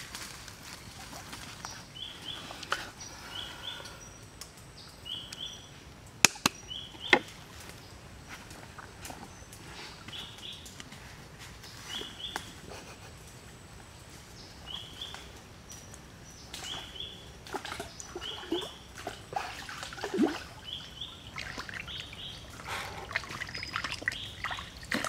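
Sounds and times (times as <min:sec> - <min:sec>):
outdoor ambience: 0:00.0 - 0:25.0.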